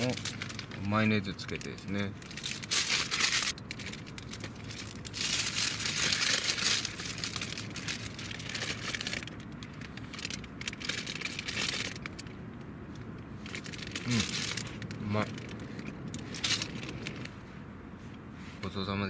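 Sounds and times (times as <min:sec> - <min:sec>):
plastic bag crinkling: 0:00.0 - 0:12.3, 0:13.4 - 0:17.3.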